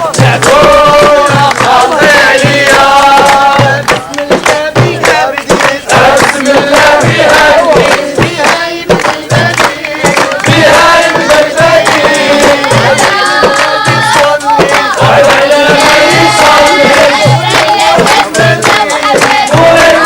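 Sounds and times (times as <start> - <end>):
group singing in unison: 0.0 - 20.0
steady percussive beat: 0.0 - 20.0.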